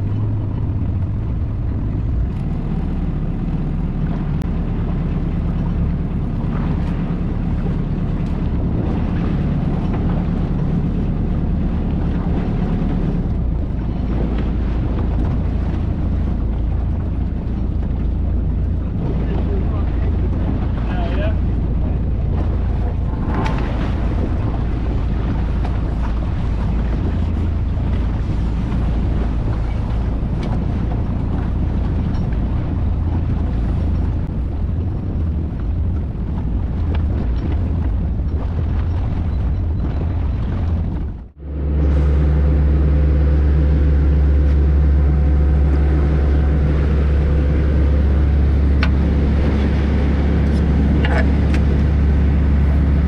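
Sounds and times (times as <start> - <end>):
boat engine humming: 0.0 - 53.0.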